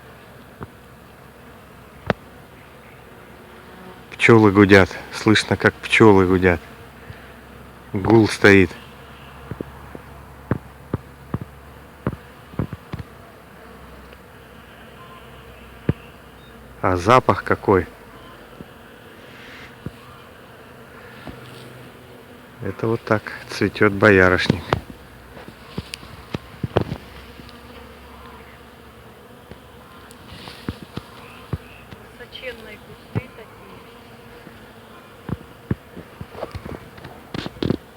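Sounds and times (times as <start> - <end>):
bees humming: 0.0 - 37.9.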